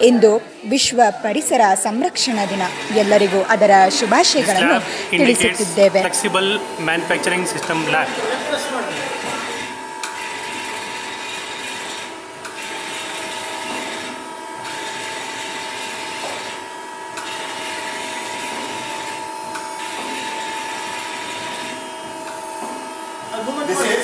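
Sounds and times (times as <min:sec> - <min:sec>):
lathe machinery high whine: 0:02.0 - 0:24.0.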